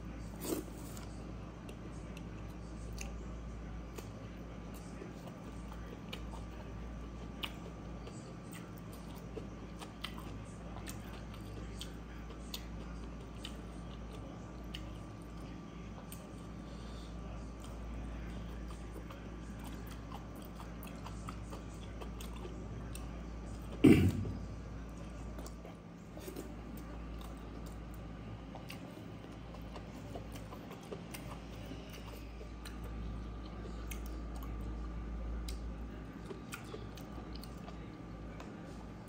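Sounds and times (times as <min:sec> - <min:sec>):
man chewing with mouth clicks: 0:00.3 - 0:39.0.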